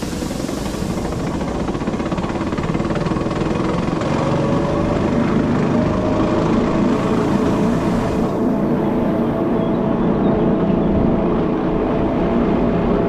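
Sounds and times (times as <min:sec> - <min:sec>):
faint rising whine: 0:00.0 - 0:13.0
train running gear rumble: 0:00.0 - 0:13.0.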